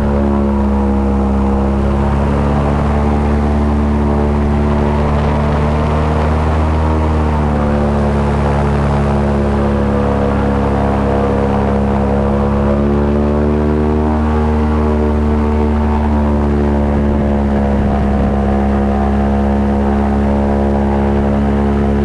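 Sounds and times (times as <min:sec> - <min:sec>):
airboat engine and propeller drone: 0:00.0 - 0:22.0.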